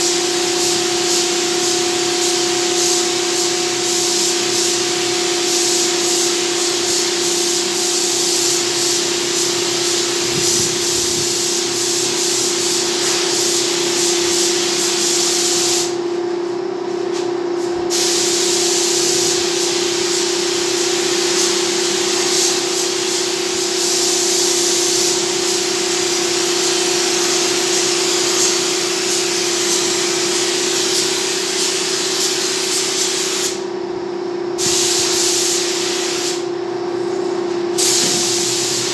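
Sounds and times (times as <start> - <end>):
spray gun air hiss: 0.0 - 16.2, 16.9 - 33.7, 34.6 - 38.9
steady hum: 0.3 - 38.9.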